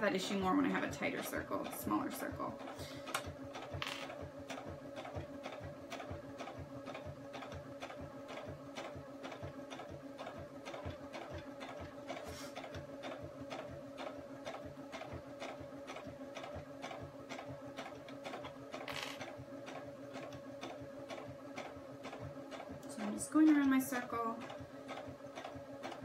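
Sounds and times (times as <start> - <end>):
sewing machine running: 0.0 - 26.0
ticking stitches: 0.3 - 26.0.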